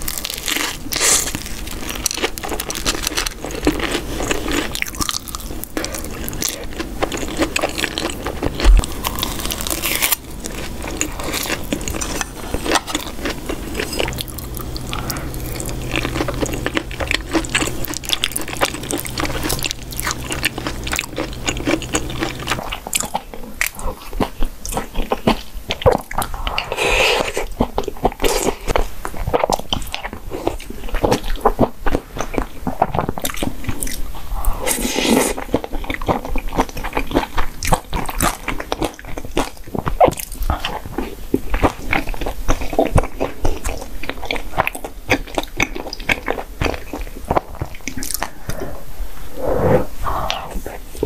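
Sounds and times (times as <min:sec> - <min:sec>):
chewing with wet clicks and crunches: 0:00.0 - 0:48.7.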